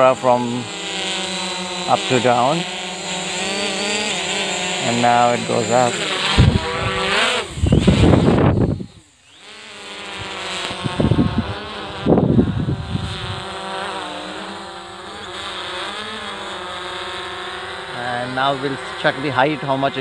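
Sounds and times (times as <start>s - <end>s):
quadcopter propellers buzzing: 0.0s - 20.0s.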